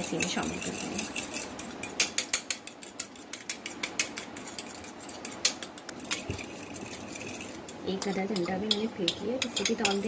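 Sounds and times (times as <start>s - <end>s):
fork beating egg in bowl: 0.0s - 10.0s.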